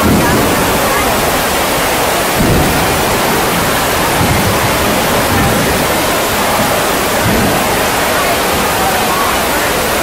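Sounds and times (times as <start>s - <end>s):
heavy rain on tent: 0.0s - 10.0s.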